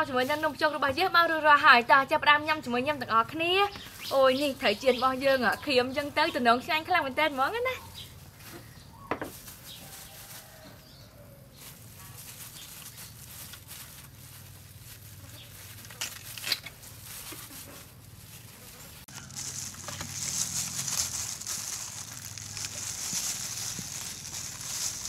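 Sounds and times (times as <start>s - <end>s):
plastic gloves crinkling: 3.4s - 6.2s, 6.9s - 25.0s.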